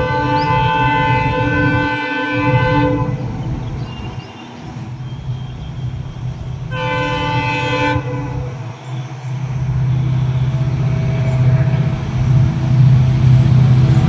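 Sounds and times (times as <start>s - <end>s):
diesel engine rumble: 0.0s - 14.0s
multi-tone locomotive horn blast: 0.0s - 14.0s.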